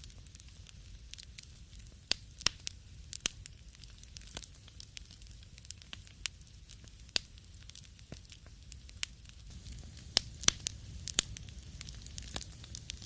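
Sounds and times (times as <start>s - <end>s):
faint low hiss: 0.0s - 13.0s
wood fire crackling: 0.0s - 13.0s.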